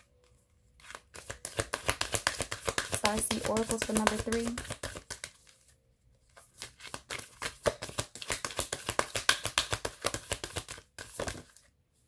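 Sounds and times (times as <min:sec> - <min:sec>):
cards being shuffled: 0:00.0 - 0:11.7.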